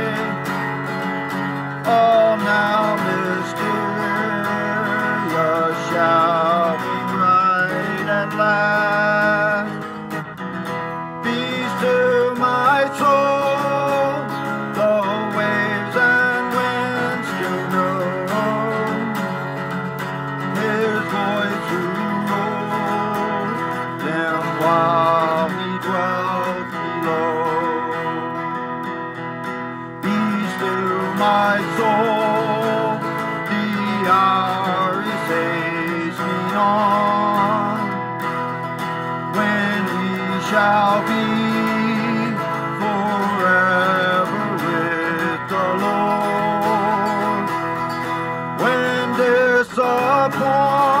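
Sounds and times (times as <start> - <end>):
acoustic guitar strummed and picked: 0.0 - 51.0.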